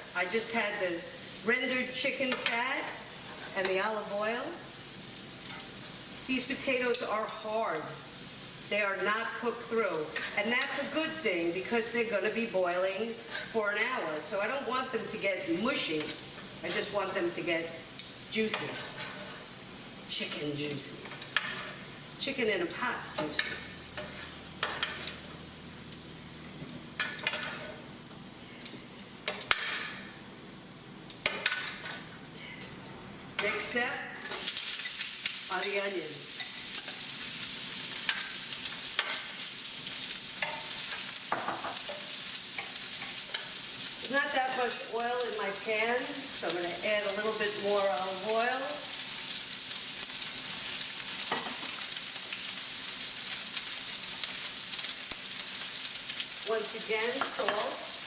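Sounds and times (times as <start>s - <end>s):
potatoes sizzling in a frying pan: 0.0s - 58.0s.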